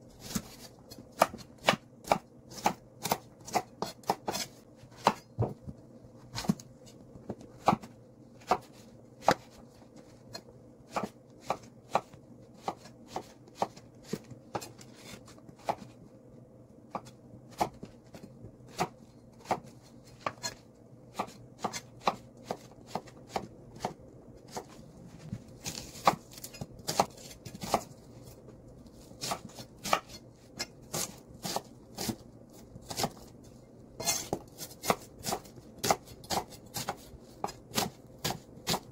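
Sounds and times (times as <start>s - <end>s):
knife chopping on wooden board: 0.2s - 5.7s, 6.3s - 6.6s, 7.2s - 9.6s, 10.3s - 15.9s, 16.9s - 24.8s, 25.6s - 27.9s, 29.2s - 32.2s, 32.8s - 33.2s, 34.0s - 38.9s.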